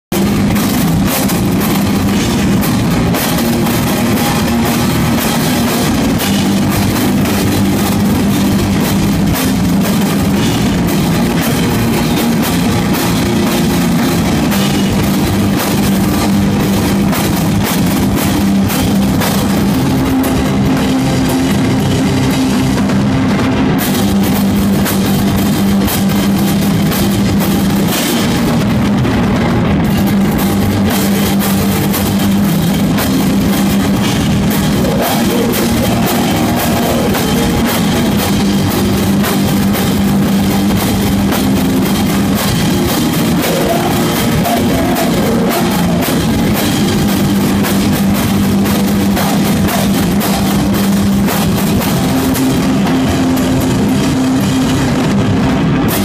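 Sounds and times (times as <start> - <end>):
punk band playing live: 0.1 - 56.0.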